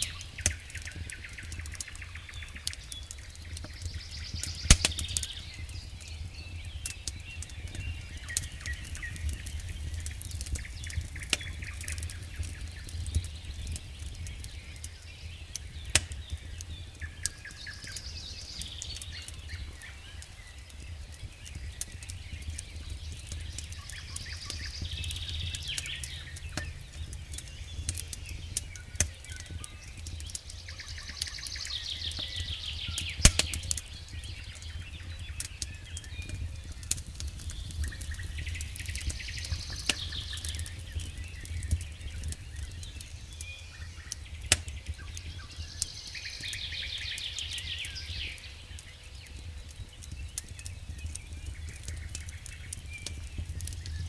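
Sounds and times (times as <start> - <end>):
campfire crackling and popping: 0.0 - 54.0
songbirds singing: 0.0 - 54.0.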